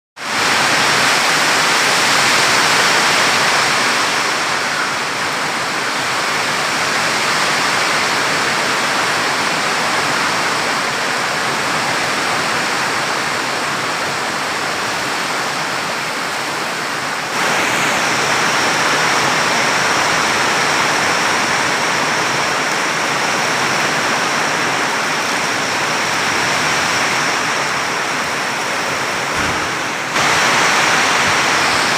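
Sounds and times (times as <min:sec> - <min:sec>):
heavy rain: 0:00.2 - 0:31.9
strong wind: 0:00.2 - 0:31.9.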